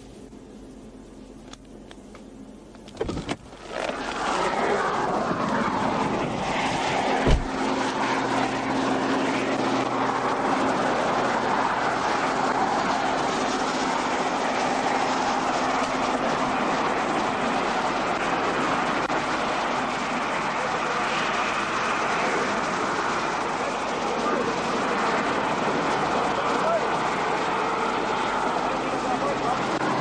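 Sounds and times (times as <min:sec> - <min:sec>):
highway traffic rushing: 0:00.0 - 0:30.0
wind noise: 0:02.8 - 0:28.9.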